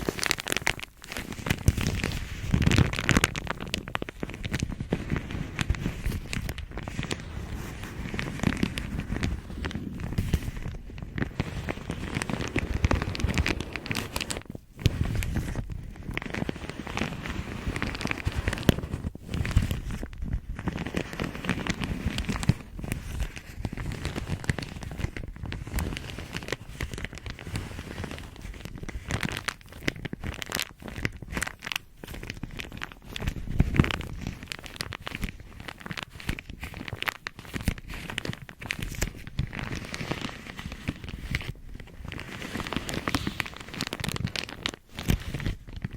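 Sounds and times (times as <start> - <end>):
bag crinkling: 0.0 - 45.9.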